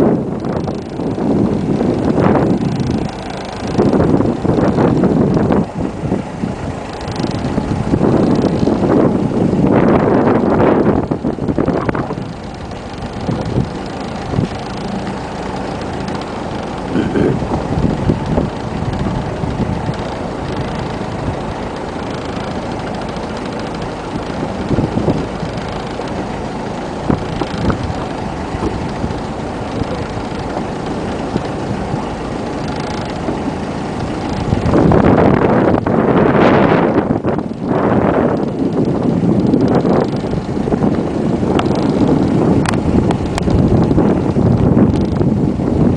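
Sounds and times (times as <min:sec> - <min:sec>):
boat engine rumbling: 0:00.0 - 0:45.9
wind buffeting microphone: 0:00.0 - 0:45.9.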